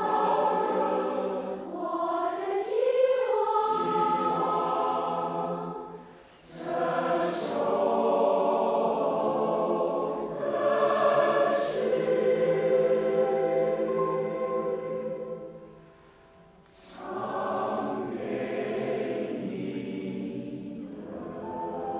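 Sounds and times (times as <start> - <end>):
choir singing slow song: 0.0 - 21.9.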